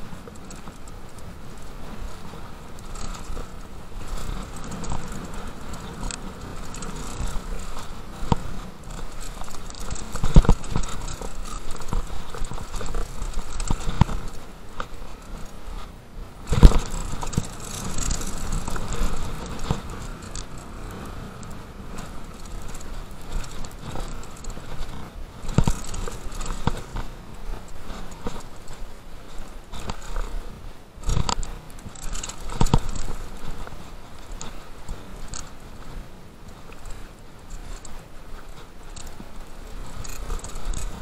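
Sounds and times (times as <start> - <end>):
bike tyres on rough trail: 0.0 - 41.0
chain and frame rattling: 0.4 - 14.4, 16.5 - 28.8, 31.0 - 34.5, 36.6 - 41.0.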